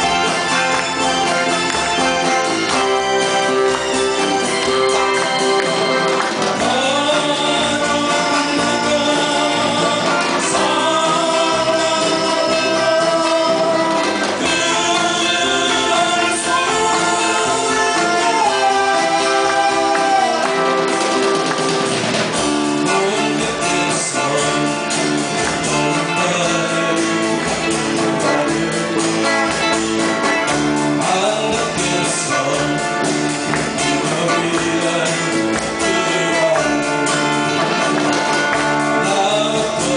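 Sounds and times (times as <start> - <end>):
person singing: 0.0 - 21.8, 22.8 - 39.9
electric guitar: 0.0 - 39.9
live band playing: 0.0 - 39.9.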